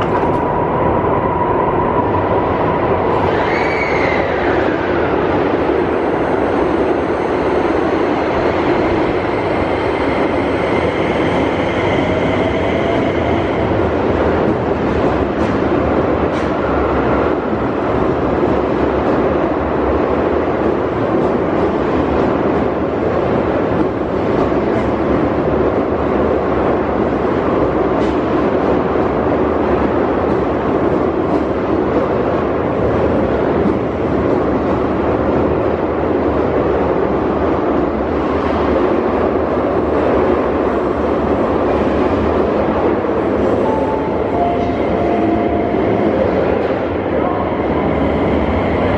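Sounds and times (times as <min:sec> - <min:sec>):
electric train wheels rumbling: 0:00.0 - 0:48.9.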